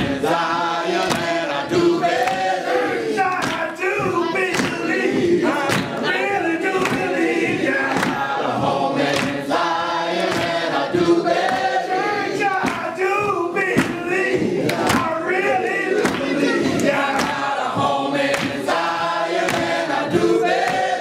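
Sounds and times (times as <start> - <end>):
choir and congregation singing: 0.0 - 21.0.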